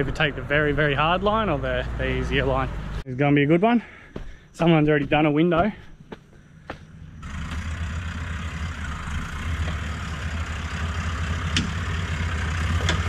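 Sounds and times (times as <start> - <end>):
engine rumbling at low revs: 0.0 - 3.1, 3.8 - 13.0.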